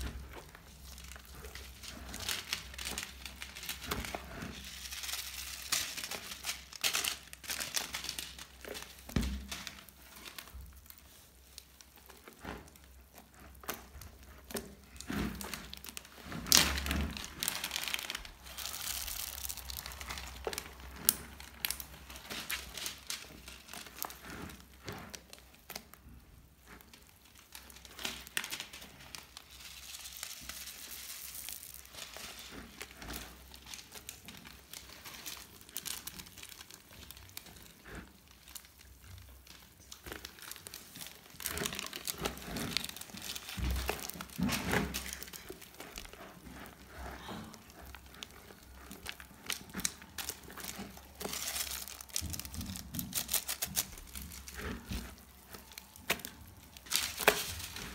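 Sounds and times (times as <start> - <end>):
slime with beads crackling: 0.0 - 57.9.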